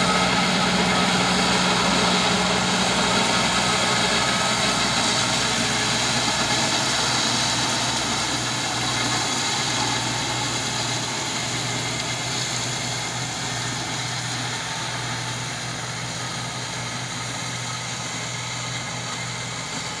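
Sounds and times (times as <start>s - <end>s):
high whir of spinning mower: 0.0s - 20.0s
tractor diesel engine running: 0.0s - 20.0s.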